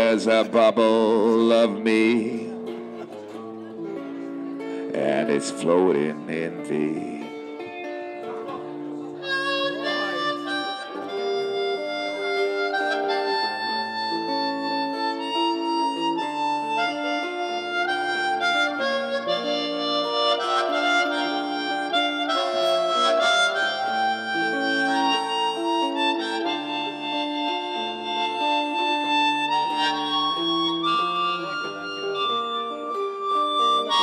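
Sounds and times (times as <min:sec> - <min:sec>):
harmonica melody: 0:00.0 - 0:34.0.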